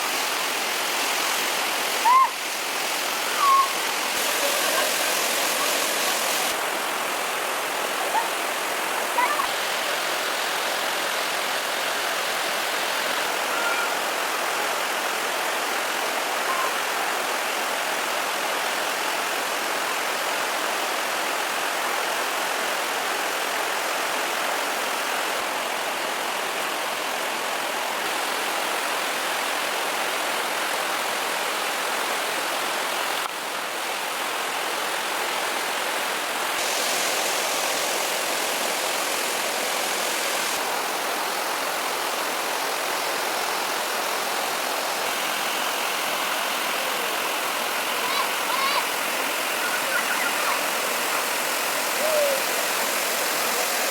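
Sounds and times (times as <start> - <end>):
running water rushing: 0.0 - 53.9.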